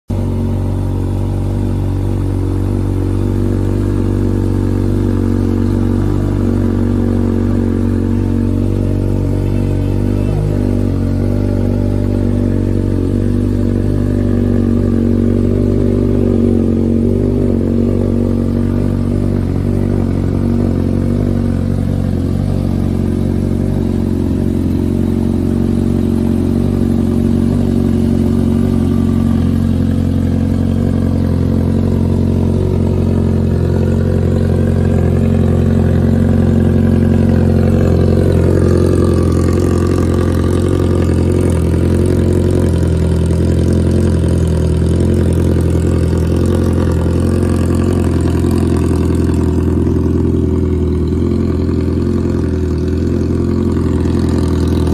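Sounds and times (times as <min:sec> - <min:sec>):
motorcycle engine idling: 0:00.1 - 0:54.9.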